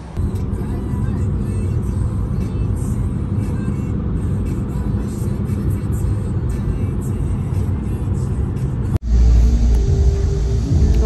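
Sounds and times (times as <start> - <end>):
road rumble inside moving car: 0.0 - 11.0.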